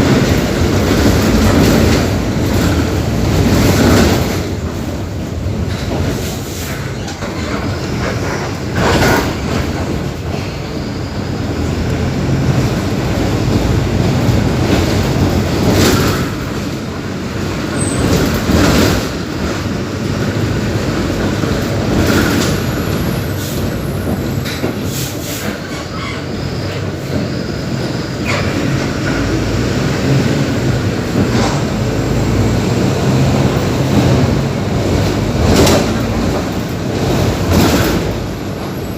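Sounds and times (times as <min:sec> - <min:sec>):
bus diesel engine drone: 0:00.0 - 0:38.9
bus knocks and rattles: 0:00.0 - 0:38.9.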